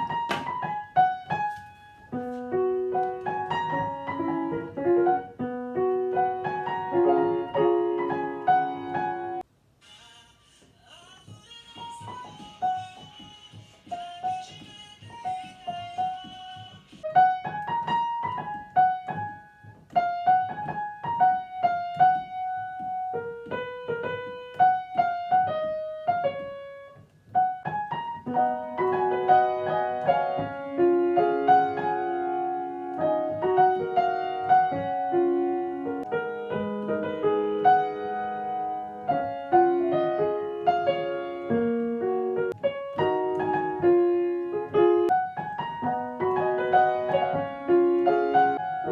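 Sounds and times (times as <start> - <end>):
piano melody and chords: 0.0 - 9.5, 11.8 - 48.9.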